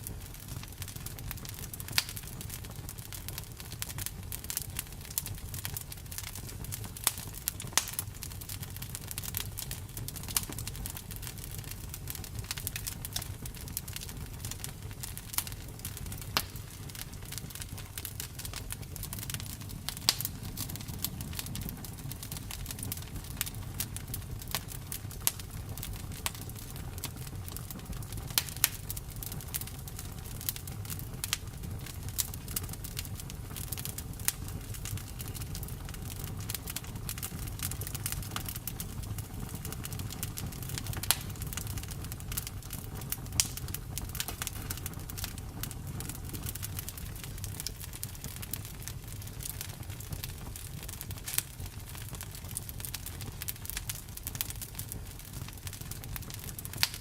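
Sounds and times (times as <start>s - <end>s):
burning wood popping and crackling: 0.0s - 57.0s
campfire flames rumbling: 0.0s - 57.0s.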